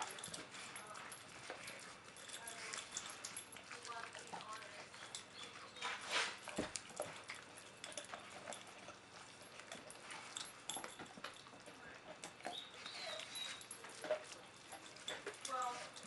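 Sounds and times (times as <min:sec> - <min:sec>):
dog gnawing on bone: 0:00.0 - 0:16.0.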